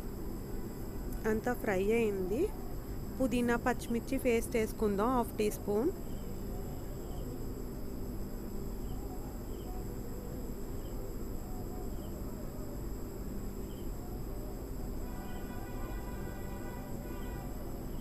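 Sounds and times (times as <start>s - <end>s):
crickets trilling: 0.0s - 18.0s
low steady hum: 0.0s - 18.0s.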